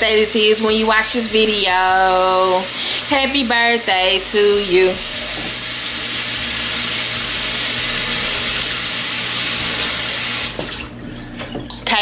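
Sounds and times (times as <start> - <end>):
hands rinsed under water: 0.0 - 12.0
tap water running: 0.0 - 12.0.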